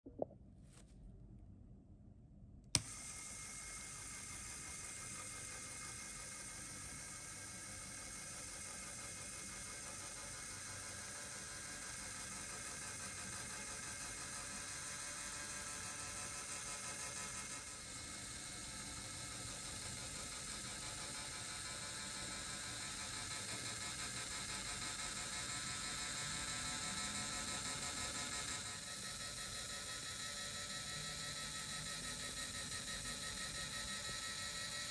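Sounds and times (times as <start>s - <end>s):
electric motor whirring gears: 2.8s - 34.9s.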